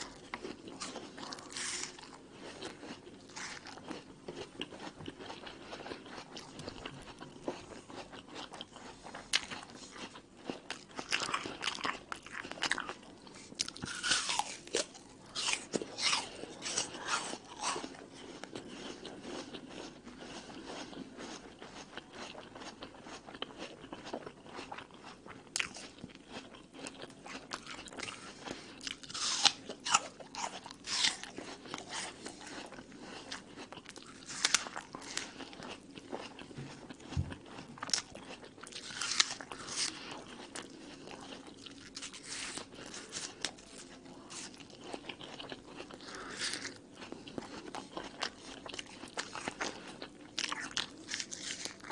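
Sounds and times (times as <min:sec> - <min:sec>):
apple crunching: 0:00.0 - 0:51.9.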